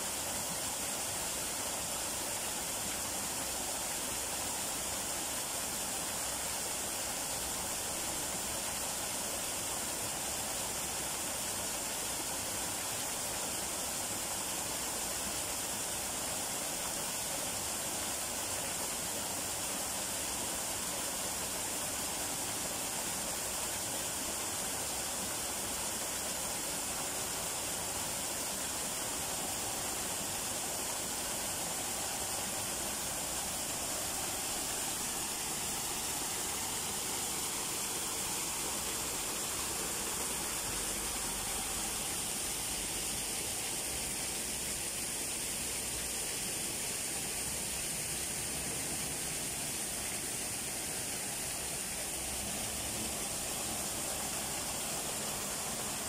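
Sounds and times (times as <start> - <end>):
small waterfall splashing into pool: 0.0 - 56.0.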